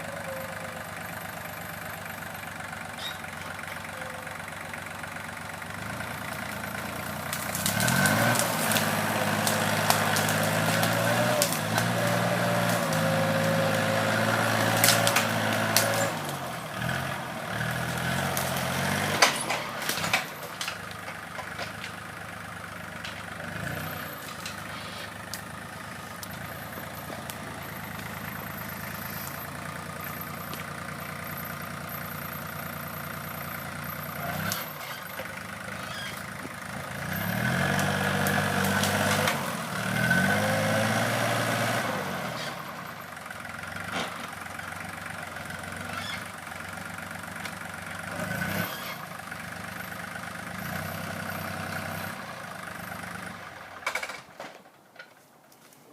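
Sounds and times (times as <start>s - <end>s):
tractor engine running: 0.0s - 55.6s.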